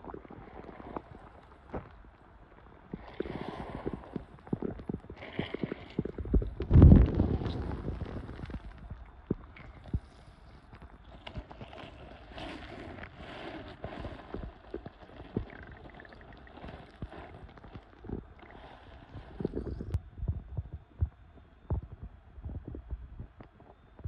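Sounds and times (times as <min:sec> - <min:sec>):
muffled underwater knocking and scraping: 0:03.0 - 0:24.0.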